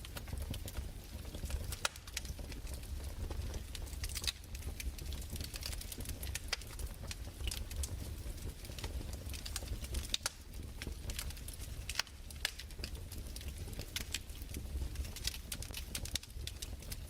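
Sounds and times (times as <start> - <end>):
fireplace crackling: 0.0 - 17.0.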